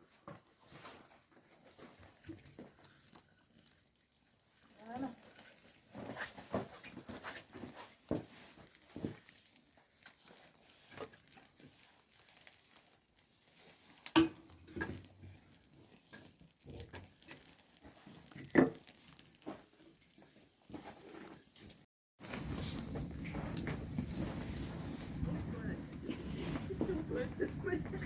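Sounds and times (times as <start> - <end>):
handling noises of objects: 0.0 - 28.0.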